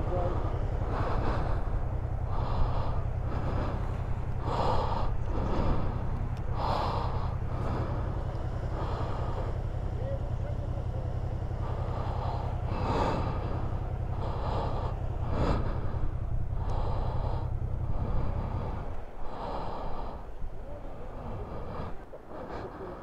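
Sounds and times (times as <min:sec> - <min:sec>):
person breathing close to microphone: 0:00.0 - 0:23.0
steady low rumble: 0:00.0 - 0:23.0.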